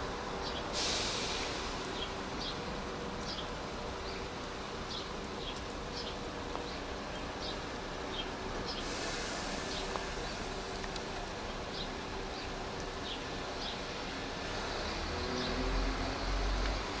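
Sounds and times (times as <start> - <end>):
diesel train humming: 0.0 - 4.8, 6.2 - 17.0
rain hissing: 0.0 - 17.0.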